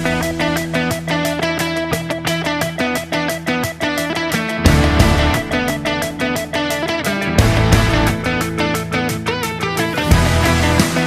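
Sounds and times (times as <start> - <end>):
guitar music with bass and beat: 0.0 - 11.0.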